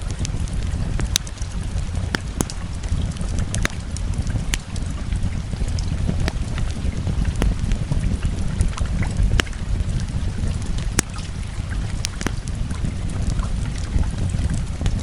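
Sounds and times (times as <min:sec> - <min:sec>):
fire popping: 0:00.0 - 0:15.0
rain rumbling: 0:00.0 - 0:15.0
wood fire crackling: 0:00.0 - 0:15.0.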